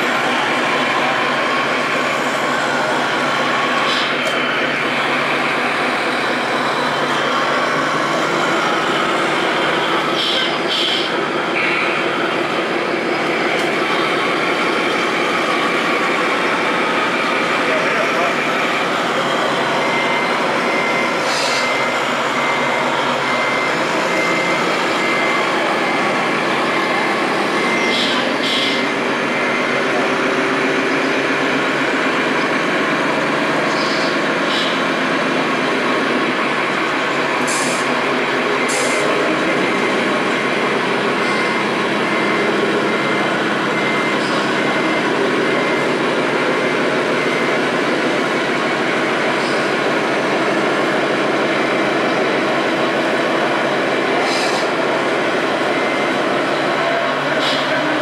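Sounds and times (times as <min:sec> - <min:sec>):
constant background din: 0:00.0 - 0:58.0
reversing beeper high beeps: 0:00.0 - 0:58.0.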